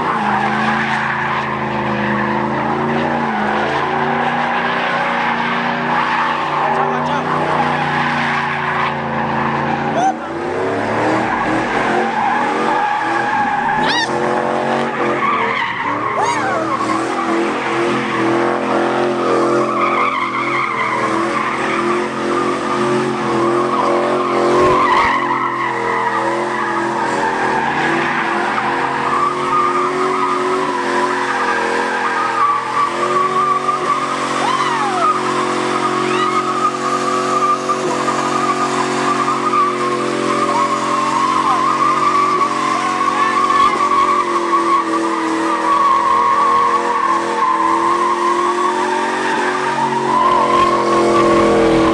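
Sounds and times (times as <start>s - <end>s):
truck engines revving: 0.0s - 51.9s
tyres squealing: 0.0s - 51.9s.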